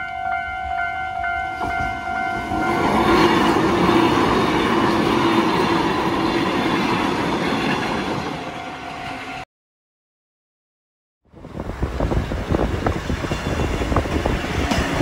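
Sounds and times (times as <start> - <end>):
electric train passing: 0.0 - 9.4, 11.3 - 15.0.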